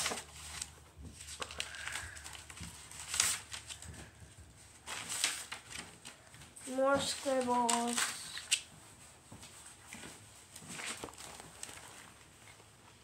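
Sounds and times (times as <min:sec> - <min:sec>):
paper pages turning: 0:00.0 - 0:08.8, 0:09.9 - 0:12.7.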